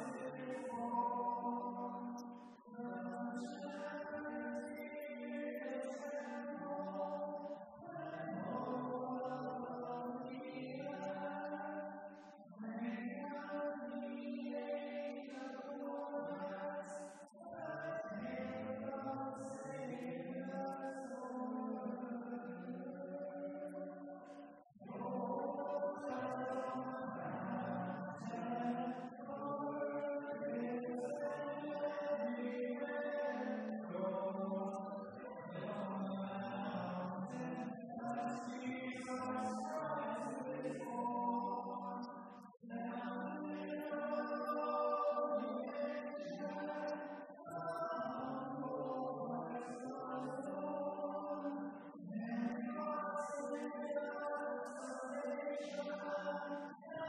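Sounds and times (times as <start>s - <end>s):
people singing a hymn: 0.0s - 57.0s.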